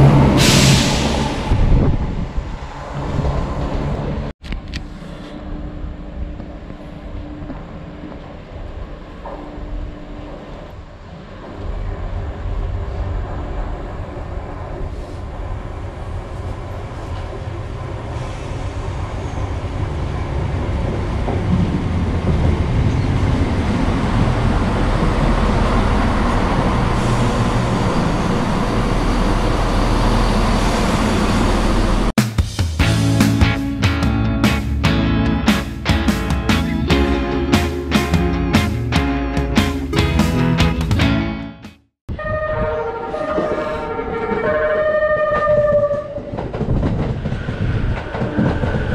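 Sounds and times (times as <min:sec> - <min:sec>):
diesel train rumbling on rail: 0:00.0 - 0:32.1, 0:32.8 - 0:41.5, 0:42.1 - 0:48.9.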